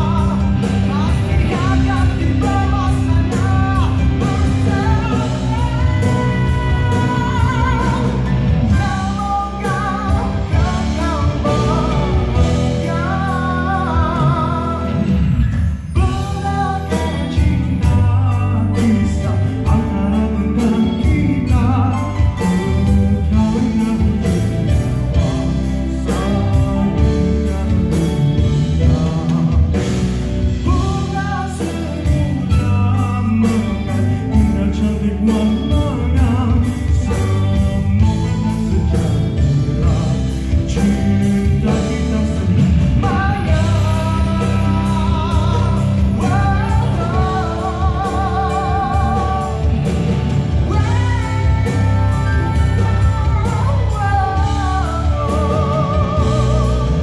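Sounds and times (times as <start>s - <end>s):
live band playing pop song: 0.0s - 57.0s
man singing into microphone: 0.0s - 57.0s
steady drum beat: 0.0s - 57.0s.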